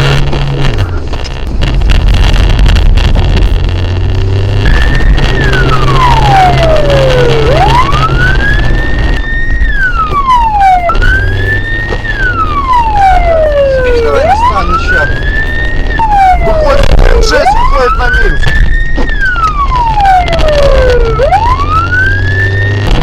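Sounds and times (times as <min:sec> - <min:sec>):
low rumble: 0:00.0 - 0:23.0
police siren wailing: 0:00.0 - 0:23.0.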